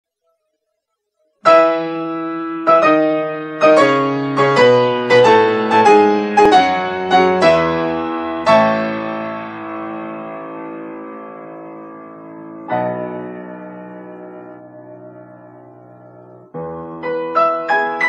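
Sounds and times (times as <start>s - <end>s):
slow piano music: 1.4s - 18.0s.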